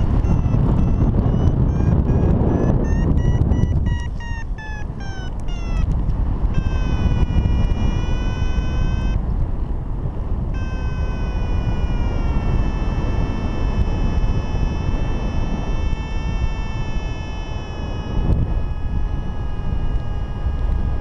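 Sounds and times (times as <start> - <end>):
steady electronic tone: 0.0 - 9.3, 10.5 - 21.0
variometer beeps: 0.0 - 9.3, 10.5 - 21.0
wind rush on microphone: 0.0 - 21.0.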